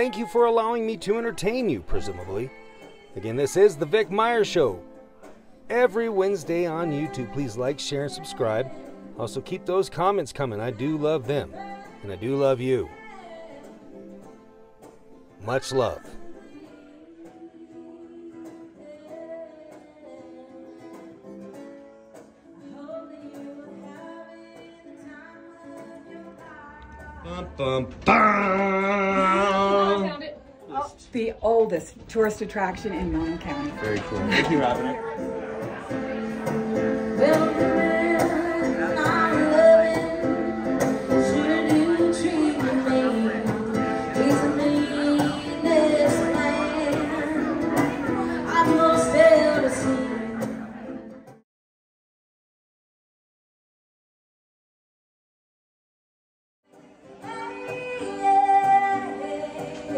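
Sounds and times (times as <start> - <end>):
woman singing: 0.0 - 4.6, 5.7 - 9.4, 10.0 - 14.4, 15.5 - 21.5, 22.4 - 51.0, 57.0 - 59.9
acoustic guitar music: 0.0 - 51.4, 56.7 - 59.9.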